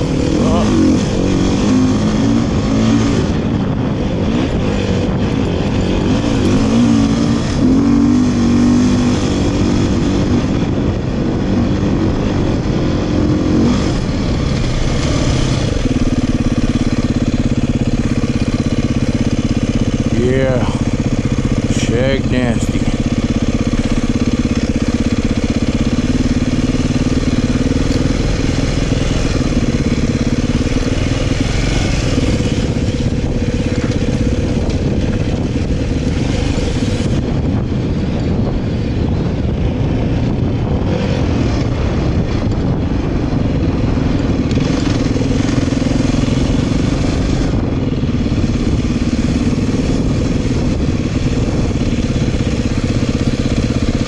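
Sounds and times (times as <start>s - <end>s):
broad rushing noise: 0.0s - 54.0s
dirt bike engine running: 0.0s - 54.0s.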